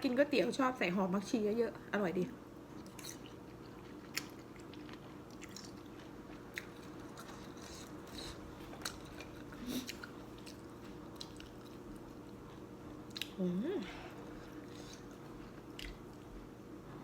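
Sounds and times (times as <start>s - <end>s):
faint steady hum: 0.0s - 17.0s
person chewing food: 2.7s - 16.5s.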